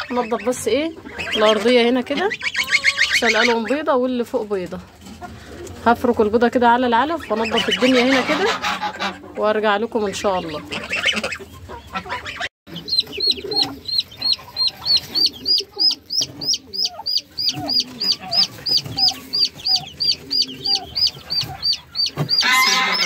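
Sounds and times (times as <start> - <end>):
turkey hen clucking: 0.0 - 3.9, 7.1 - 23.0
chicks peeping: 0.0 - 4.2, 5.0 - 23.0.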